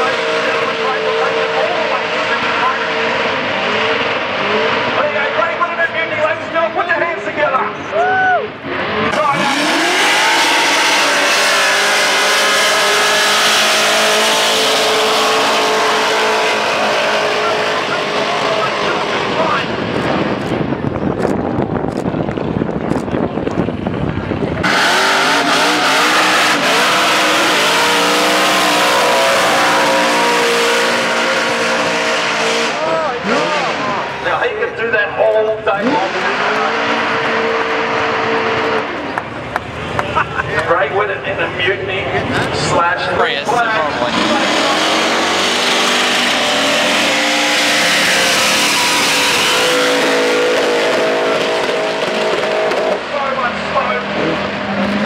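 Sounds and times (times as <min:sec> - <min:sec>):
car engines revving high: 0:00.0 - 0:55.0
distant burnout rumble: 0:00.0 - 0:55.0.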